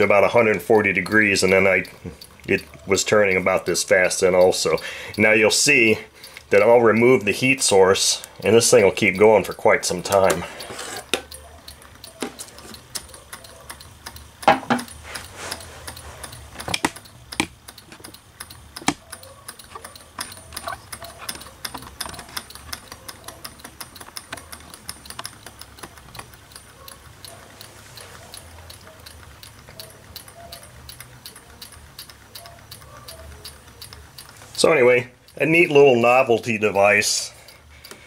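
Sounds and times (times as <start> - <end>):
stirling engine ticking: 0.0 - 38.0.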